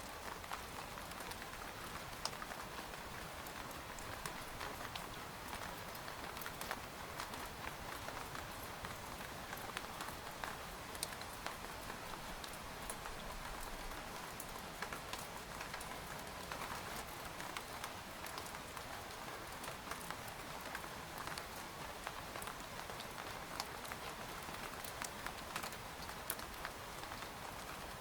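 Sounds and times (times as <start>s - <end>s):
rain falling on a tent: 0.0s - 28.0s.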